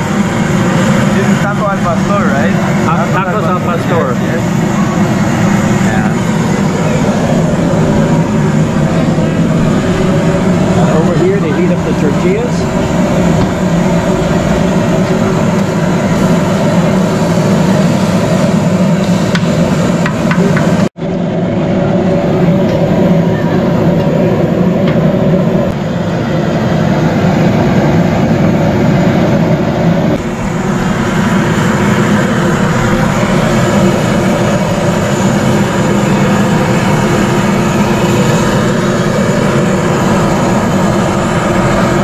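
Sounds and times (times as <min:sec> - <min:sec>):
loud mechanical hum: 0:00.0 - 0:42.0.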